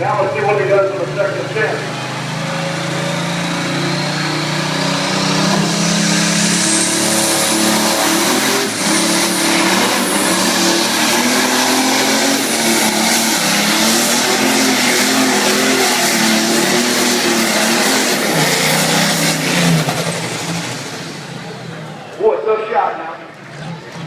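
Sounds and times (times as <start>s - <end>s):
tractor engine under full load: 0.0s - 24.0s.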